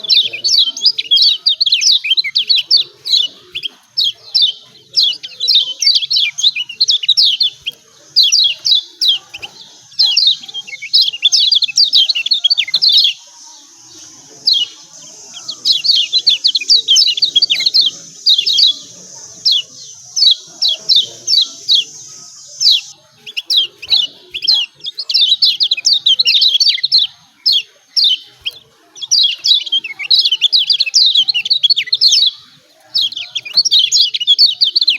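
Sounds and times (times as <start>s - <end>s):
bird chirping rapidly: 0.0s - 34.9s.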